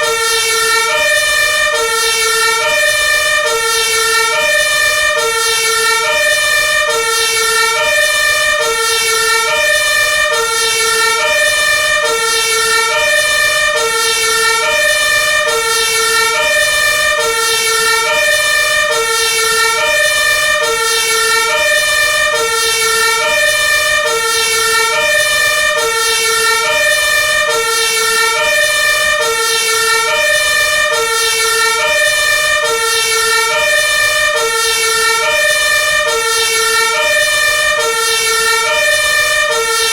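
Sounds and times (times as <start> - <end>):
two-tone fire truck siren: 0.0 - 39.9.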